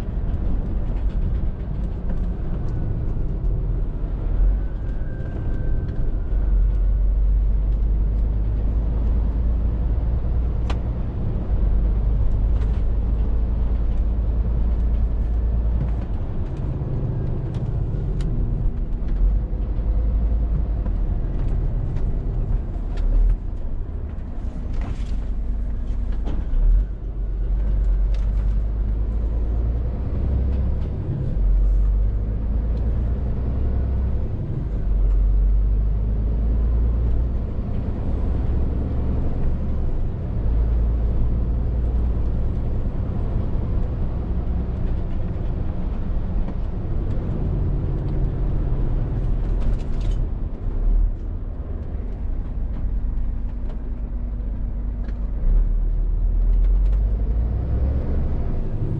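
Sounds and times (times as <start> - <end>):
diesel truck engine rumble: 0.0 - 58.9.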